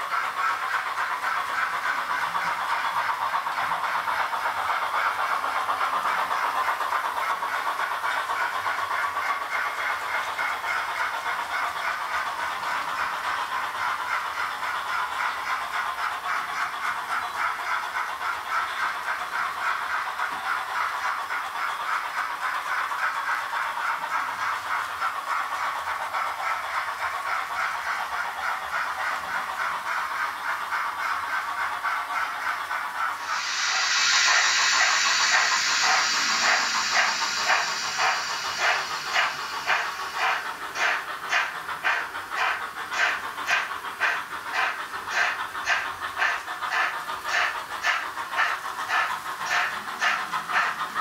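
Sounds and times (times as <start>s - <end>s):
hiss: 0.0s - 51.0s
steam chuffing from small loudspeaker: 0.0s - 51.0s.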